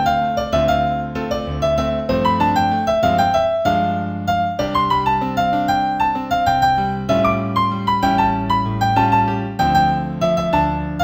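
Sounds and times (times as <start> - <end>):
solo piano improvisation: 0.0 - 11.0.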